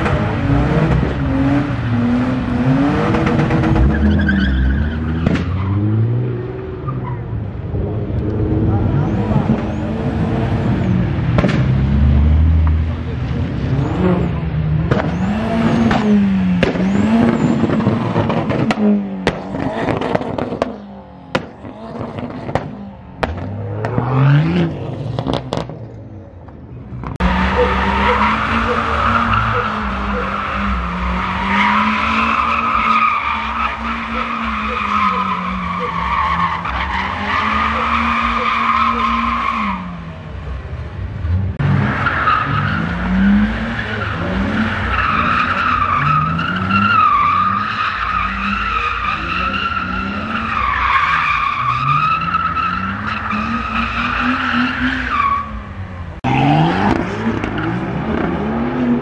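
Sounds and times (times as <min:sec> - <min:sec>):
car engines revving: 0:00.0 - 0:59.0
tyres skidding and squealing: 0:00.0 - 0:59.0.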